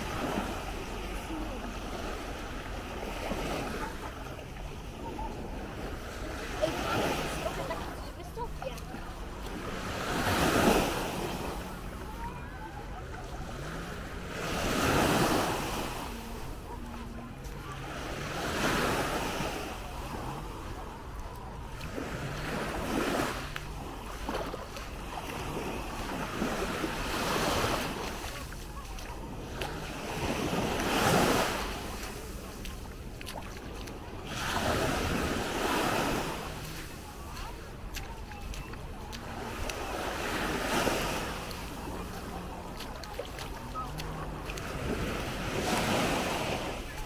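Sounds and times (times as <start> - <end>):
light wind: 0.0 - 47.0
small waves breaking on sand: 0.0 - 47.0.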